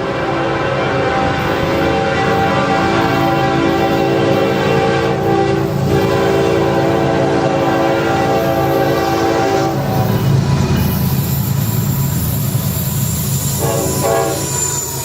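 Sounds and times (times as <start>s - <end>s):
locomotive air horn blasts: 0.0s - 11.4s, 13.2s - 15.0s
train rumbling: 0.0s - 15.0s.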